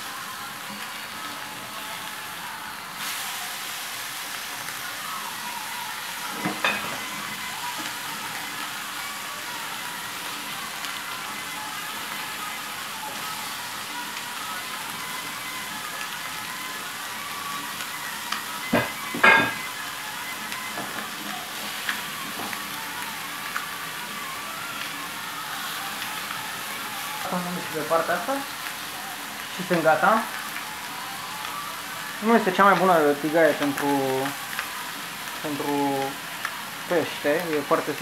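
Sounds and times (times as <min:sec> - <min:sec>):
fish sizzling in a frying pan: 0:00.0 - 0:38.0.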